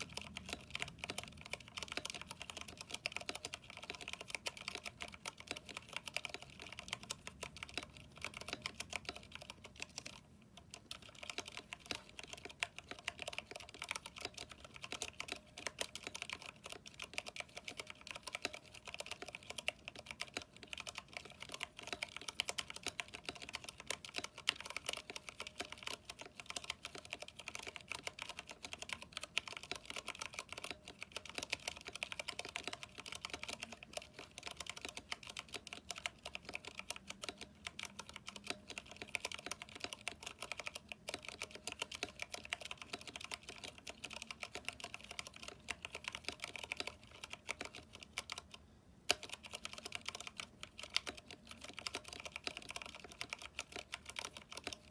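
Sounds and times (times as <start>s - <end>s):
fast typing on mechanical keyboard: 0.0s - 54.9s.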